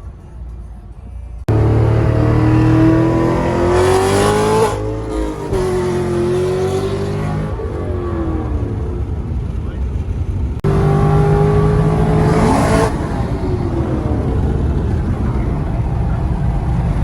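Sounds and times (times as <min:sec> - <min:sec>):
car engine at full throttle: 0:01.5 - 0:17.0.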